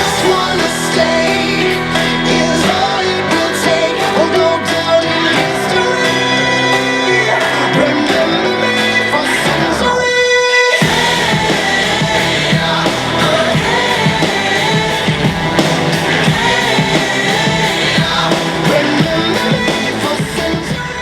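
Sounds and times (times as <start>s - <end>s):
pop song with singing: 0.0s - 21.0s.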